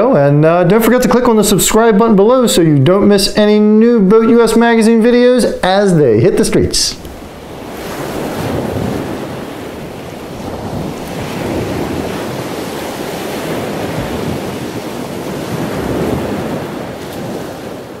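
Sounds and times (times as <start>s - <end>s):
ocean waves washing: 0.0s - 18.0s.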